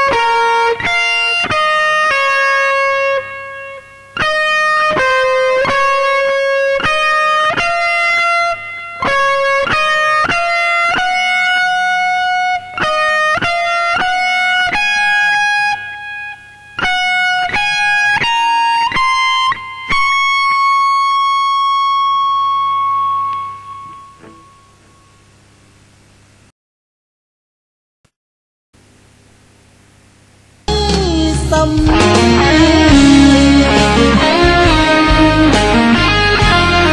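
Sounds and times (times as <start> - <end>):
electric guitar solo melody: 0.0 - 25.1, 30.7 - 36.9.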